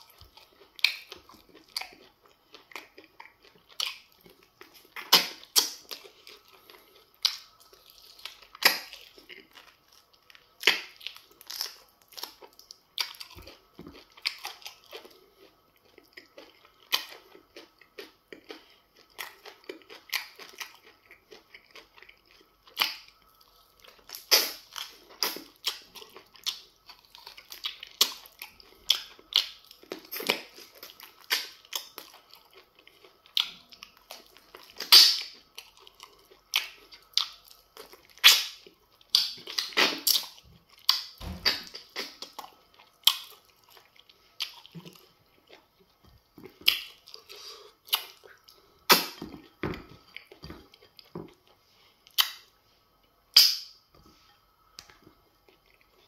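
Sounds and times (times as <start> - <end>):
man chewing with mouth smacks: 0.0 - 56.0.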